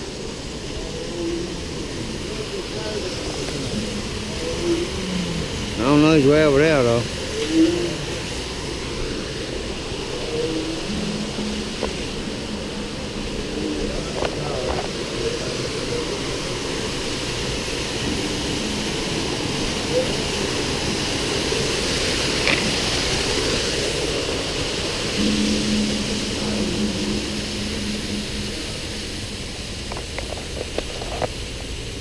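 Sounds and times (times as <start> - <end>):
waterfall splashing into a pool: 0.0 - 32.0.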